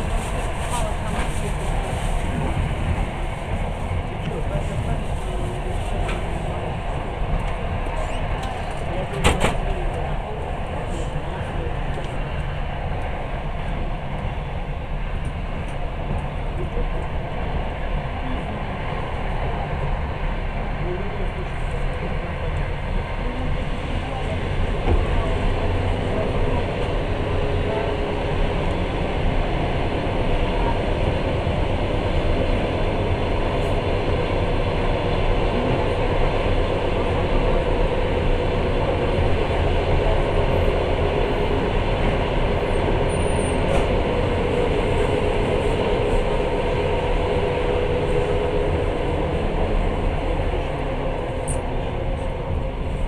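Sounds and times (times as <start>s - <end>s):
train wheels on rail: 0.0s - 53.0s.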